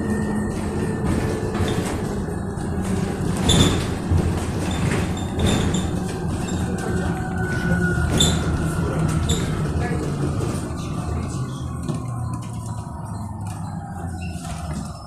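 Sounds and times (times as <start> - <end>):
bus body knocks and rattles: 0.0 - 15.0
tyres rumbling on road: 0.0 - 15.0.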